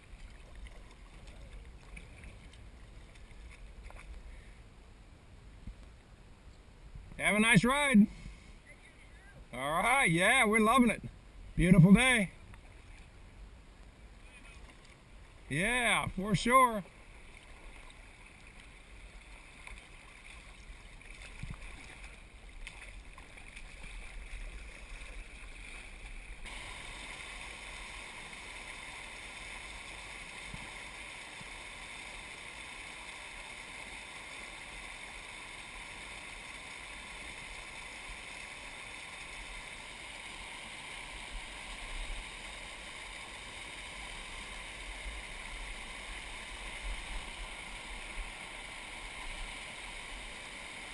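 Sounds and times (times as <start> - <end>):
faint river water: 0.0 - 50.9.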